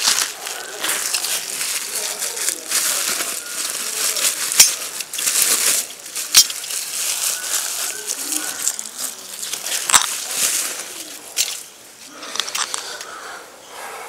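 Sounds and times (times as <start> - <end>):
packing wrap crumpling: 0.0 - 11.6.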